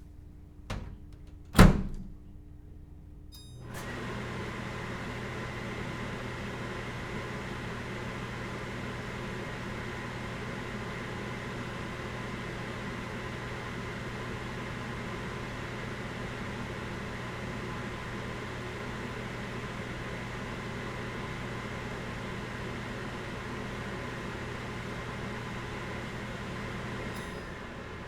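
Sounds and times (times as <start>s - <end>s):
microwave cooling fan whirring: 0.0s - 28.0s.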